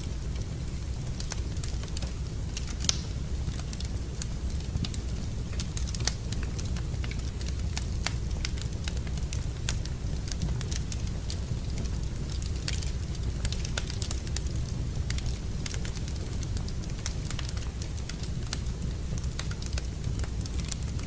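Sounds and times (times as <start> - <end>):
fire popping: 0.0 - 21.0
low steady rumble: 0.0 - 21.0
wood fire crackling: 0.0 - 21.0.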